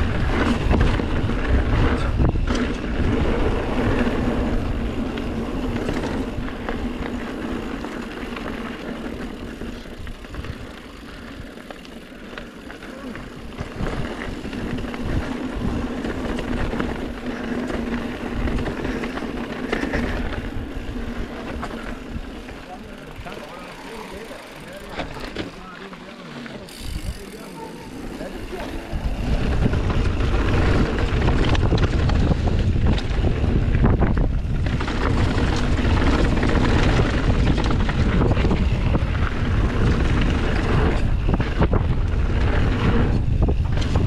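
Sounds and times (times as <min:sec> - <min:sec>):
wind buffeting microphone: 0:00.0 - 0:11.6, 0:13.2 - 0:25.4, 0:27.9 - 0:44.0
bike rattling and knocking: 0:00.0 - 0:44.0
bike tyres rolling over dirt: 0:00.0 - 0:44.0.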